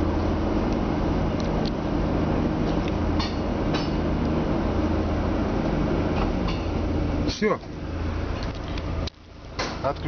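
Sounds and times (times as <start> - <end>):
electric cooling fan running: 0.0 - 10.0.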